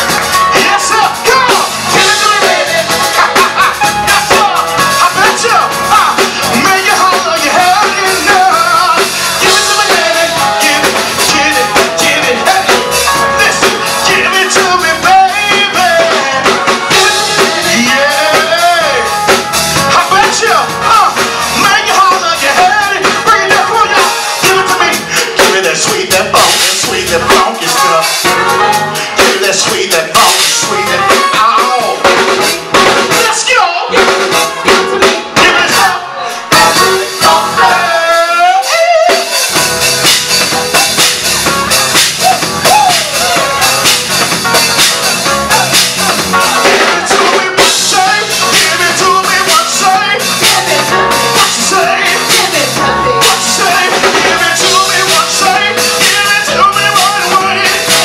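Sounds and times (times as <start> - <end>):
singers' vocals: 0.0 - 41.2, 42.0 - 58.0
funk band playing: 0.0 - 58.0.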